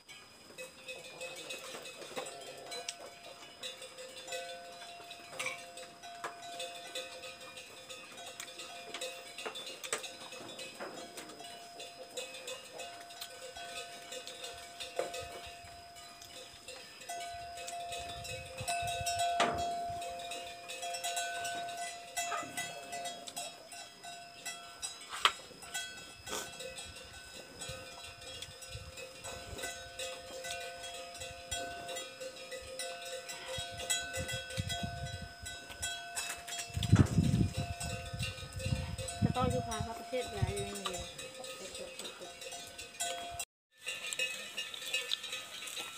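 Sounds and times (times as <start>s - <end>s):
livestock bells clanking: 0.0s - 45.9s.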